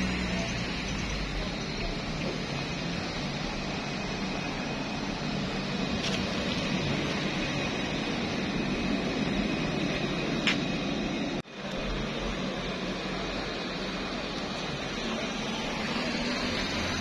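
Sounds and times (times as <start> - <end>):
passing traffic hum: 0.0 - 17.0.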